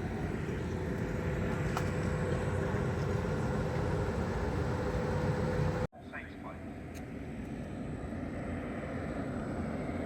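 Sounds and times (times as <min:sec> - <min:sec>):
train car rumble and hum: 0:00.0 - 0:08.3.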